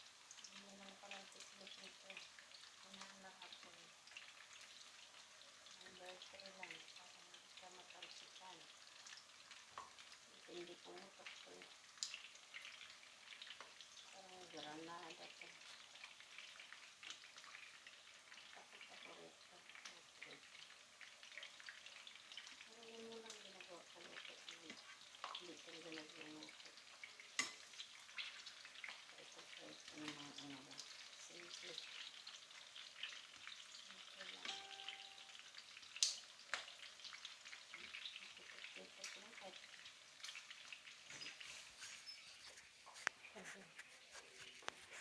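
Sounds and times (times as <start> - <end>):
peppers sizzling in a pan: 0.0 - 45.0.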